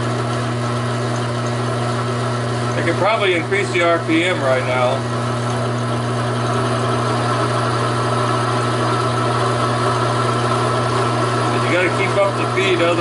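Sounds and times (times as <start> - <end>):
lathe motor hum: 0.0 - 13.0.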